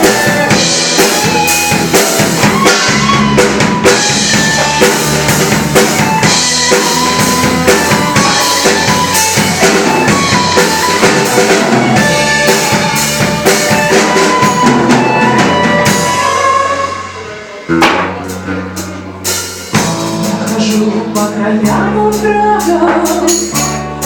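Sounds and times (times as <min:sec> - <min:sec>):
drum kit beat: 0:00.0 - 0:24.0
rock band playing: 0:00.0 - 0:24.0.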